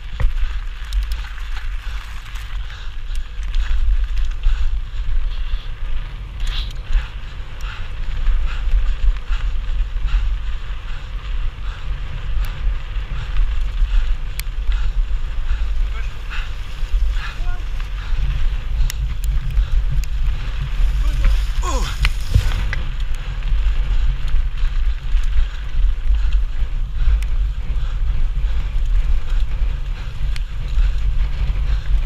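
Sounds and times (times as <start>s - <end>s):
bike frame rattling: 0.0s - 8.2s, 12.5s - 32.0s
bike tyres rolling over gravel: 0.0s - 32.0s
wind noise on microphone: 0.0s - 32.0s.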